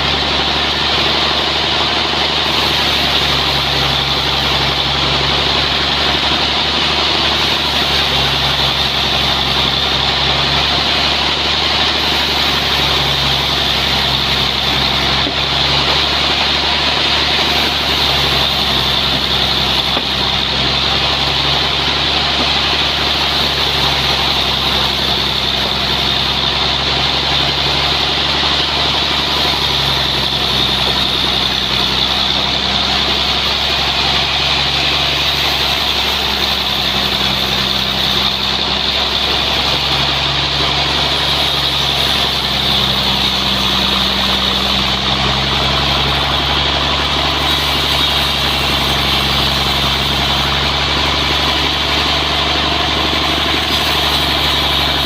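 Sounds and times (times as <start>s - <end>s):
sawmill engine drone: 0.0s - 55.0s.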